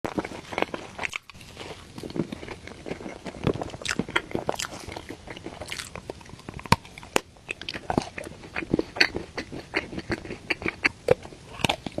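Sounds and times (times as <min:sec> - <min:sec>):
biting and chewing: 0:00.1 - 0:12.0.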